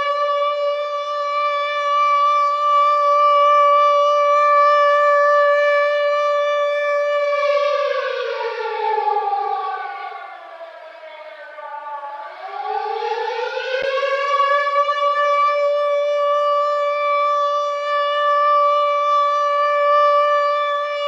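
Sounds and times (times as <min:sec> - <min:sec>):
air raid siren: 0:00.0 - 0:21.0.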